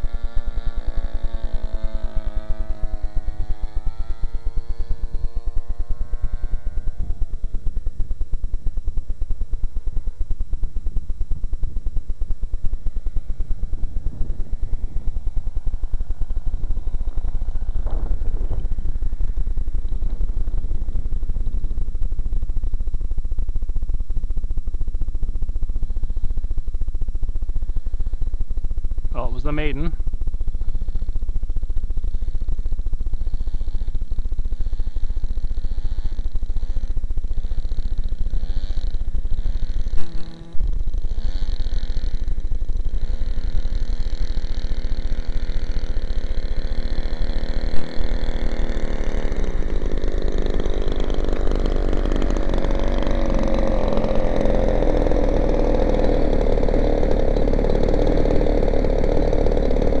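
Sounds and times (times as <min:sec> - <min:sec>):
model plane engine running: 0:00.0 - 1:00.0.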